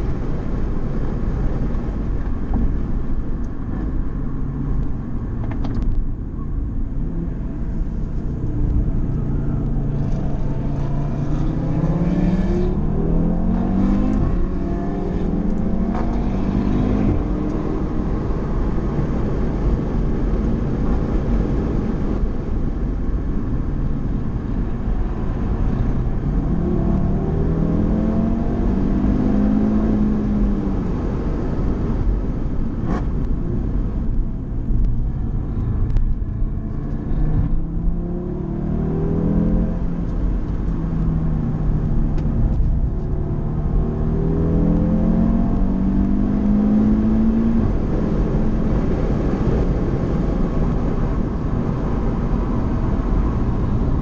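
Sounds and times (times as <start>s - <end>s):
car engine from inside cabin: 0.0s - 54.0s
road and wind noise: 0.0s - 54.0s.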